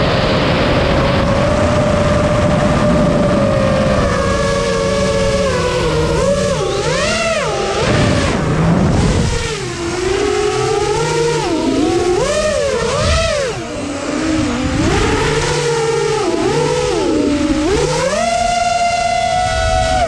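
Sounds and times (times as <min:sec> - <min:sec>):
quadcopter propellers whining: 0:00.0 - 0:20.0.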